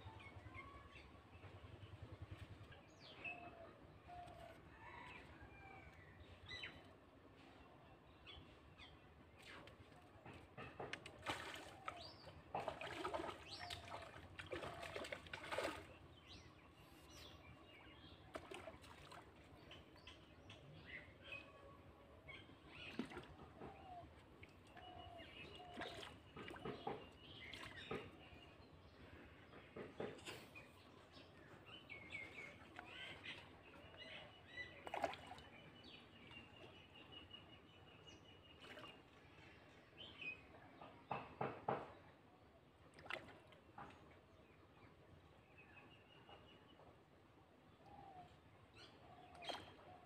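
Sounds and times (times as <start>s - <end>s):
faint outdoor ambience: 0.0s - 50.0s.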